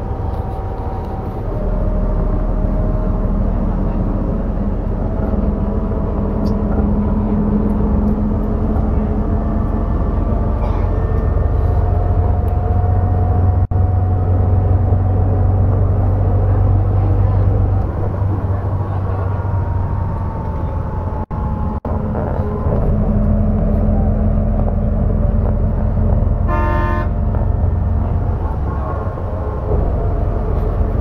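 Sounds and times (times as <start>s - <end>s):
bus engine drone: 0.0s - 31.0s
road noise: 0.0s - 31.0s.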